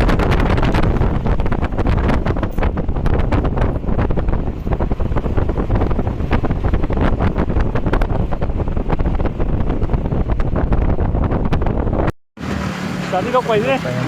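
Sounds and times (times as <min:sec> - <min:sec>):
vehicle rumbling on rough road: 0:00.0 - 0:14.0
wind buffeting microphone: 0:00.0 - 0:14.0.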